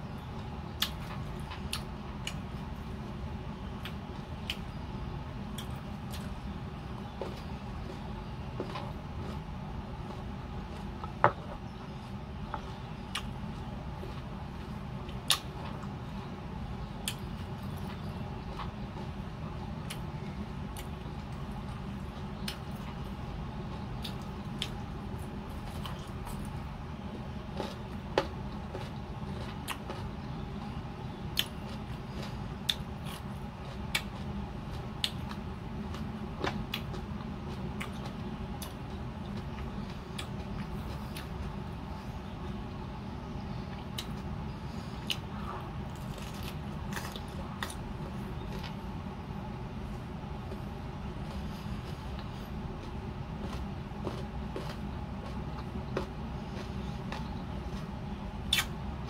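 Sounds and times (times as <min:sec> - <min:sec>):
steady low hum: 0:00.0 - 0:59.0
crunchy chewing: 0:00.1 - 0:59.0.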